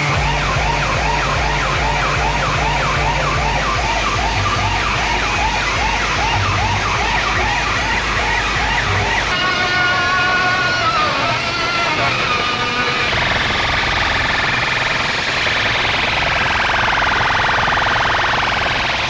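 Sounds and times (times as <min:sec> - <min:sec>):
heavy bass: 0:00.0 - 0:19.0
siren-style warbling tone: 0:00.0 - 0:19.0.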